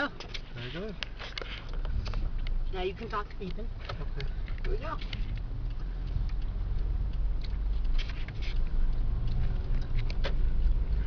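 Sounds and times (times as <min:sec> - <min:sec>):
car rumble from inside cabin: 0:00.0 - 0:11.0
small clicks and crackles: 0:00.1 - 0:11.0.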